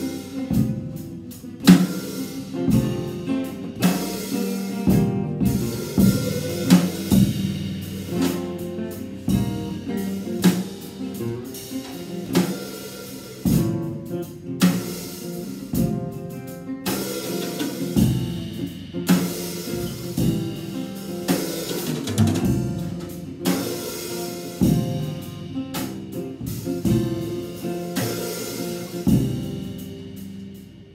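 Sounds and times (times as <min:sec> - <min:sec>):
acoustic guitar strumming: 0:00.0 - 0:30.9
drum kit playing: 0:00.0 - 0:30.9.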